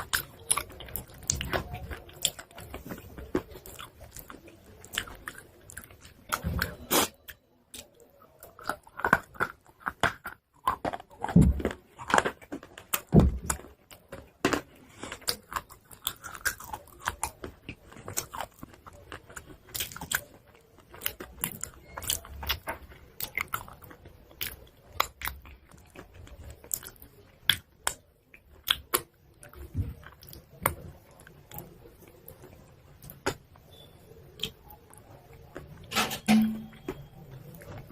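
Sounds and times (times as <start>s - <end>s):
chalk being chewed and crunched: 0.0s - 35.7s.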